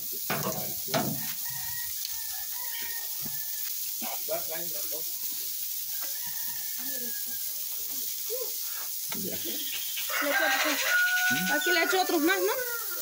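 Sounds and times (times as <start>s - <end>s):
meat sizzling on a grill: 0.0s - 13.0s
faint voices: 2.5s - 13.0s.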